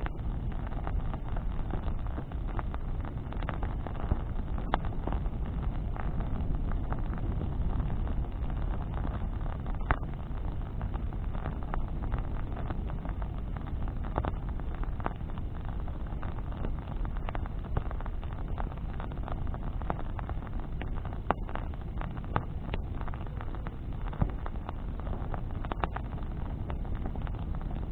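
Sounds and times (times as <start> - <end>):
bonfire crackling and popping: 0.0 - 27.9
low rumble of flame: 0.0 - 27.9
wind on microphone: 0.0 - 27.9.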